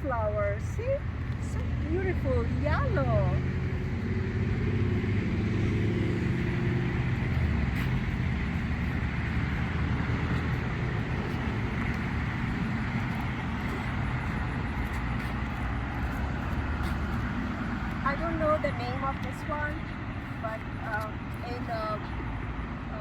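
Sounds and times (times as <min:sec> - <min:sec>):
road traffic noise: 0:00.0 - 0:23.0
vehicle engine hum: 0:00.0 - 0:23.0.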